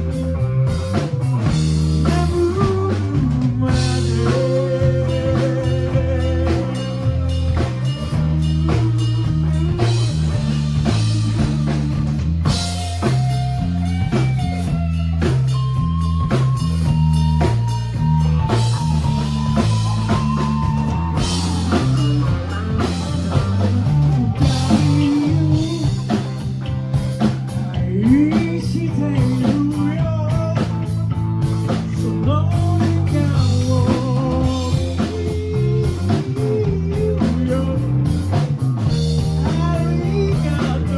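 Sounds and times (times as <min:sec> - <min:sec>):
electric guitar: 0:00.0 - 0:40.9
live rock band playing: 0:00.0 - 0:40.9.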